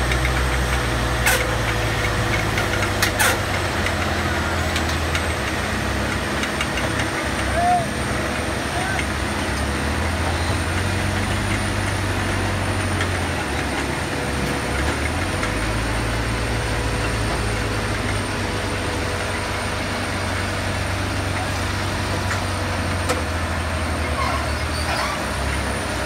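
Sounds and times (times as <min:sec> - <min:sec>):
harvester engine drone: 0:00.0 - 0:26.0.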